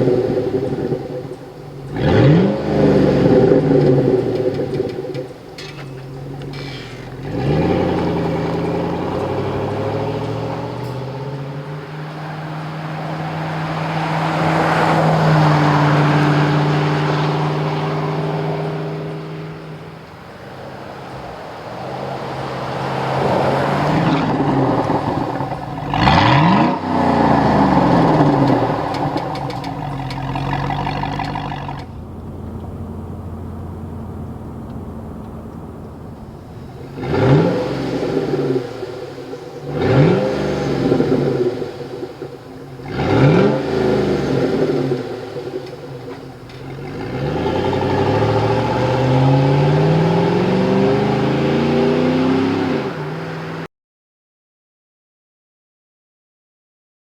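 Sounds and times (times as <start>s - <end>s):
car engine revving and idling: 0.0s - 53.7s.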